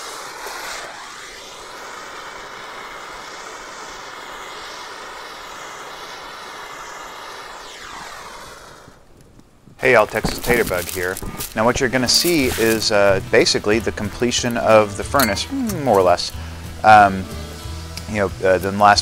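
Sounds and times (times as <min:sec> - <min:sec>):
torch flame hissing: 0:00.0 - 0:19.0.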